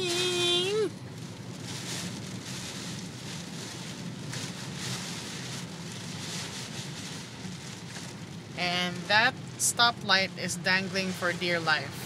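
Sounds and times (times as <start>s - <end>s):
rain: 0.0s - 12.0s.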